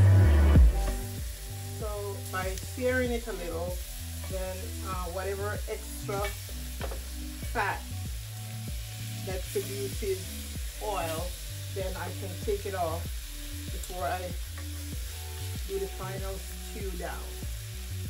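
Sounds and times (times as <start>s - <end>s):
background music with bass line: 0.0s - 18.0s
food sizzling on stove: 0.0s - 18.0s.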